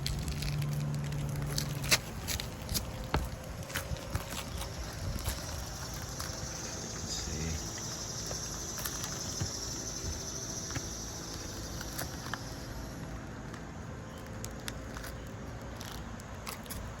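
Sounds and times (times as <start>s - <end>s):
insects buzzing: 0.0s - 15.0s
low background rumble: 0.0s - 17.0s.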